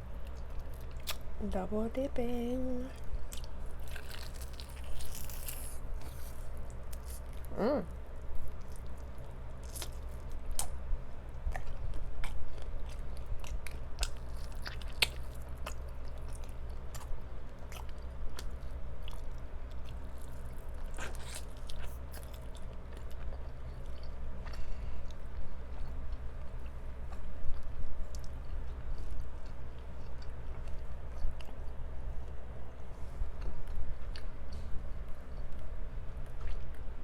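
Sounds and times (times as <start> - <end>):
crunchy chewing of fried chicken: 0.0 - 1.4, 2.8 - 37.0.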